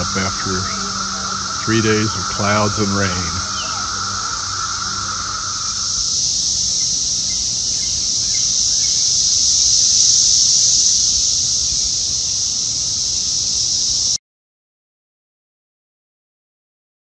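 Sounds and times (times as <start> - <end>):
cicadas droning: 0.0 - 14.2.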